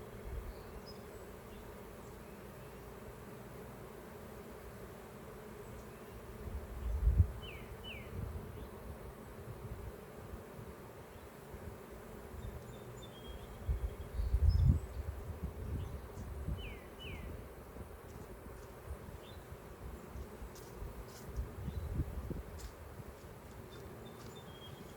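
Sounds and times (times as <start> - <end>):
honeybees buzzing: 0.0 - 24.9.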